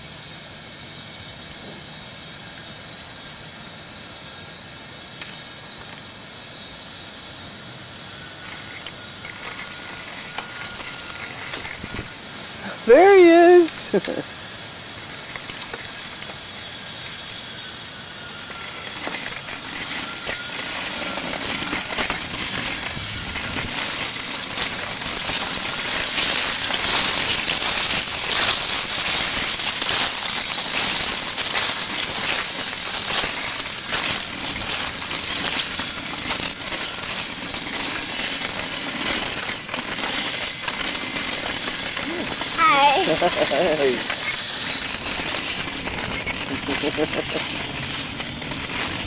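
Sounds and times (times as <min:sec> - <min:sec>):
bike rattling over rough ground: 0:08.2 - 0:49.0.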